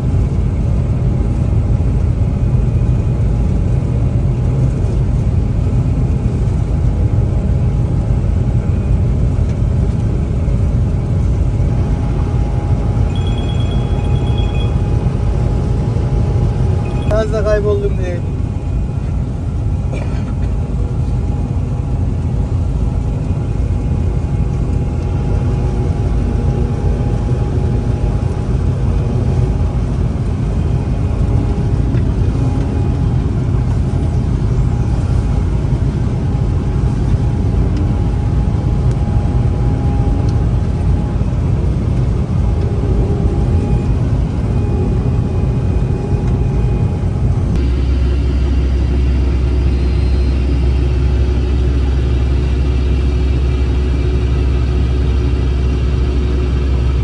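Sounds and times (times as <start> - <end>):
deep steady hum: 0.0 - 57.0
vehicle engine rumbling: 0.0 - 57.0.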